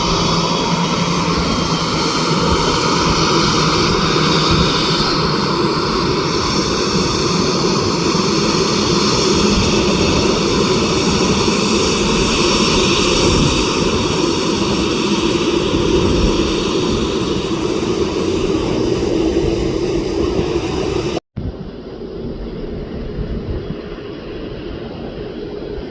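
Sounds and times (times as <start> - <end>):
jet engine whining: 0.0 - 25.9
jet engines roaring: 0.0 - 25.9.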